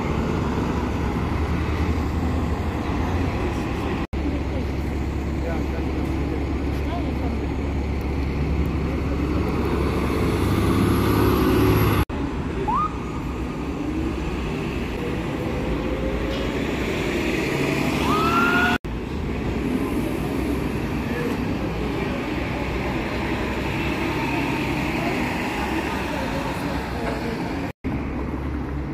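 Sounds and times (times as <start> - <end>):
bus whine pulling away: 0.0 - 28.8
bus engine drone: 0.0 - 28.9
traffic noise: 0.0 - 28.9.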